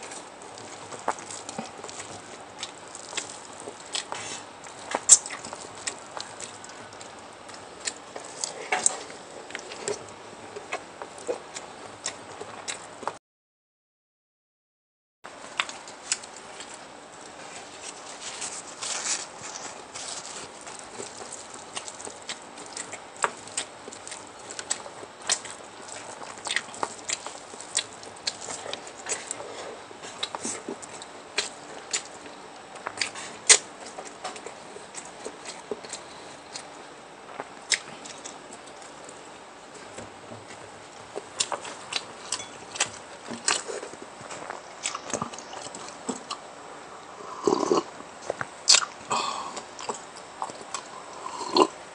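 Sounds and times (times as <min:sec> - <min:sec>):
chewing: 0:00.0 - 0:13.2, 0:15.5 - 0:46.5, 0:47.3 - 0:51.8.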